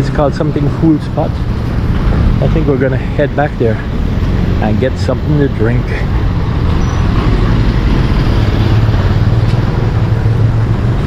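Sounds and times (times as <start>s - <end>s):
moving vehicle running noise: 0.0s - 11.0s.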